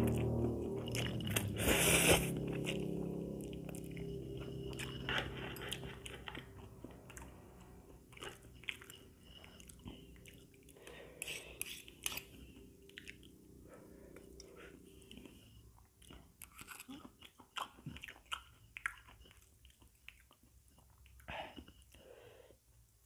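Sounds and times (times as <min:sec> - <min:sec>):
chewing noodles: 0:00.0 - 0:22.0.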